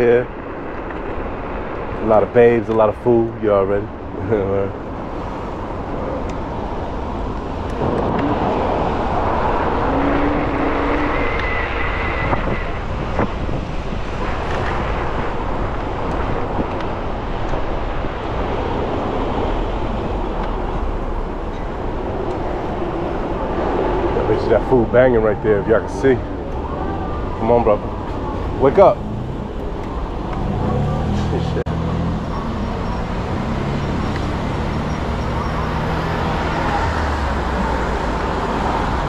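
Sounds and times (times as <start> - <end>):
road and traffic noise: 0.0 - 39.0
wind rushing over microphone: 0.0 - 39.0.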